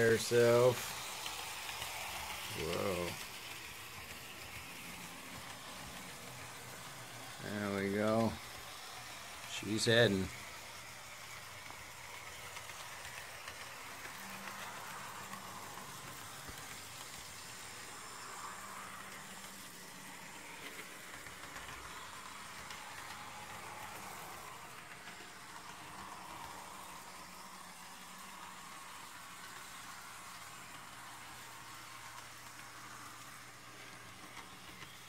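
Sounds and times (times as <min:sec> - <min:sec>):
model locomotive motor whirring: 0:00.0 - 0:35.0
wheels rolling on rails: 0:00.0 - 0:35.0.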